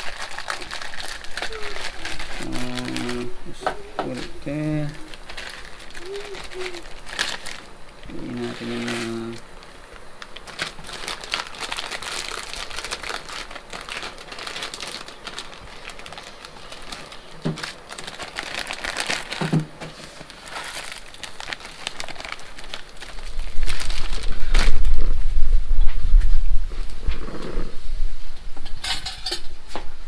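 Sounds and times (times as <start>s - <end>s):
plastic packets crinkling: 0.0s - 25.1s.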